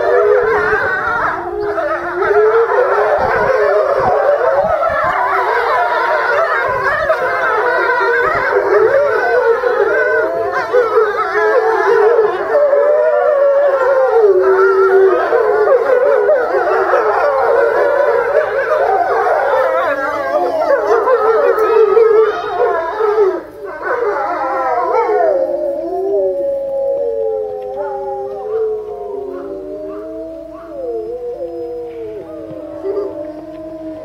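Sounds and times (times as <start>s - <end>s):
wolves howling in chorus: 0.0s - 34.0s.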